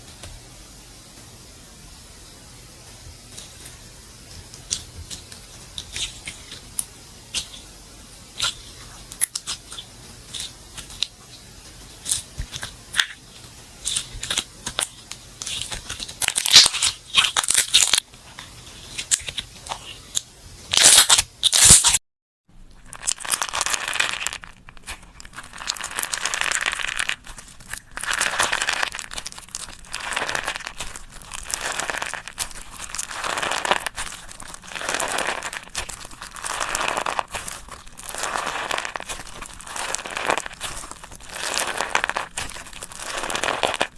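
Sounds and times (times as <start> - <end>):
slime crackling and popping: 3.1 - 22.0, 22.8 - 43.9
slime squishing: 3.2 - 22.0, 22.8 - 43.9.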